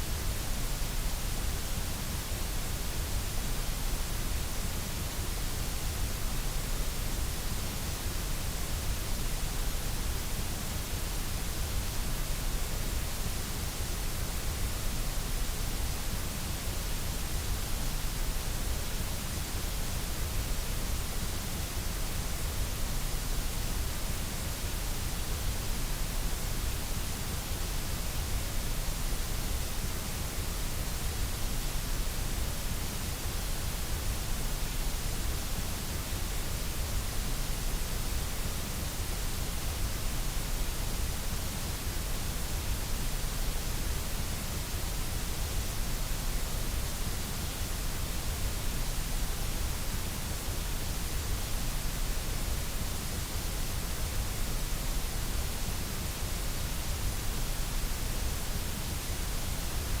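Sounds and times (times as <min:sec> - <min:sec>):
white noise hiss: 0:00.0 - 1:00.0.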